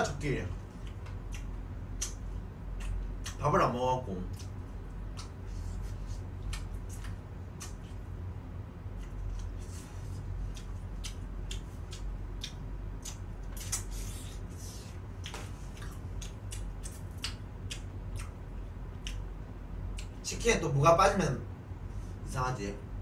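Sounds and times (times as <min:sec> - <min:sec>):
crunching and chewing fried chicken: 0:00.1 - 0:03.5, 0:04.1 - 0:20.2.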